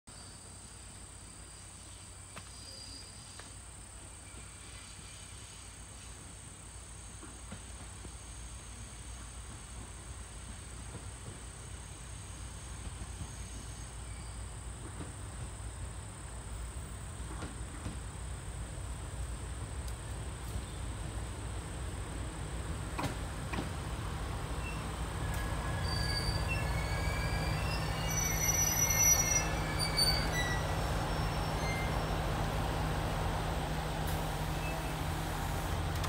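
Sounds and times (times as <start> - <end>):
diesel railcar rumble: 0.4 - 36.0.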